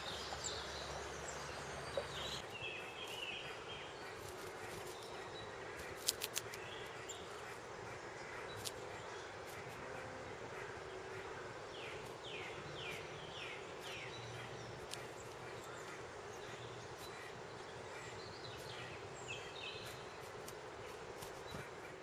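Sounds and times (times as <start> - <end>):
birds calling: 0.0 - 22.0
steady background hiss: 0.0 - 22.0.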